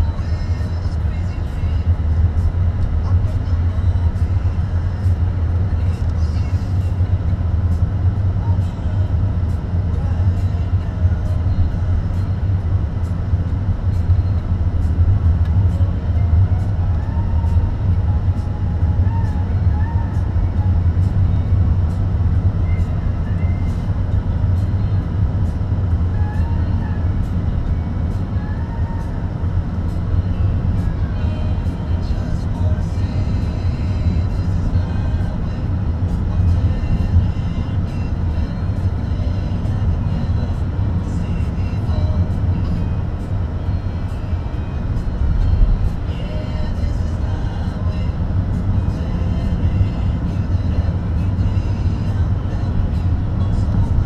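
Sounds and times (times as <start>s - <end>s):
car engine rumble: 0.0s - 54.0s
tyres on road: 0.0s - 54.0s.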